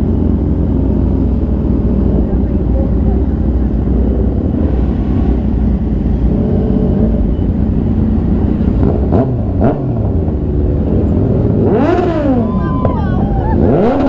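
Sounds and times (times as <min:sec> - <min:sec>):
motorcycle engine revving: 0:00.0 - 0:14.0
motorcycle engine rumbling: 0:00.0 - 0:14.0.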